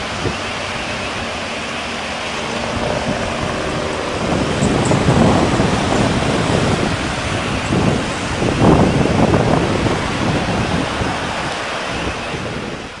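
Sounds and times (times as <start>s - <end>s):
cars driving on road: 0.0s - 13.0s
wind buffeting microphone: 0.0s - 13.0s.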